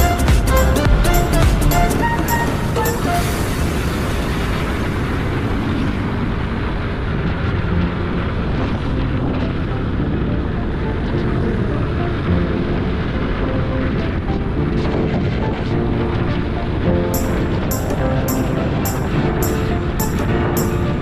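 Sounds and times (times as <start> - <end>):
wind rushing: 0.0 - 21.0.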